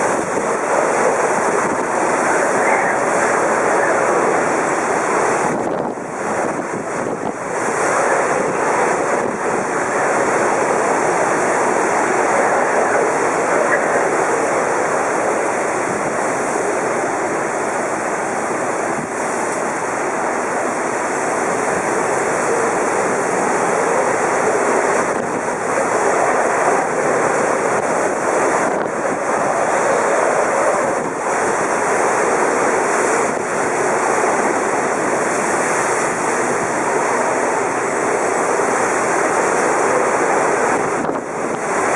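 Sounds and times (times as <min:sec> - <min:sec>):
heavy rain: 0:00.0 - 0:41.9
strong wind: 0:00.0 - 0:41.9
wind buffeting microphone: 0:00.0 - 0:41.9.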